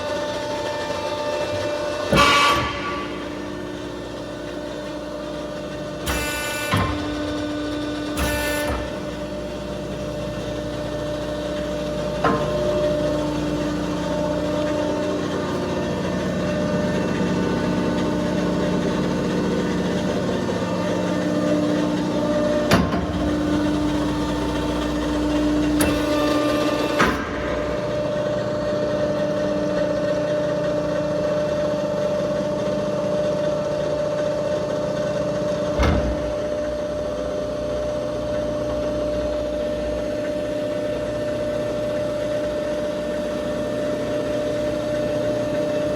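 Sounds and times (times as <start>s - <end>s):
baler mechanical hum: 0.0s - 45.9s.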